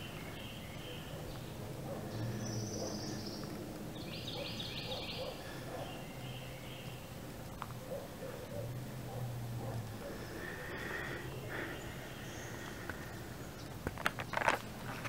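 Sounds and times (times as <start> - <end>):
wild birds calling: 0.0 - 15.0.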